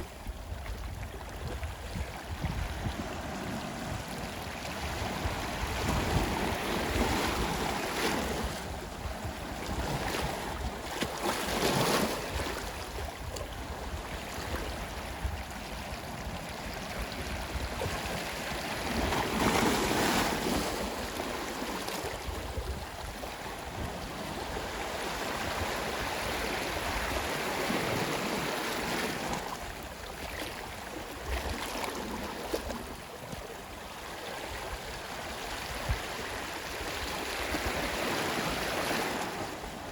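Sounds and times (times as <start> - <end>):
ocean waves washing ashore: 1.3 - 39.9.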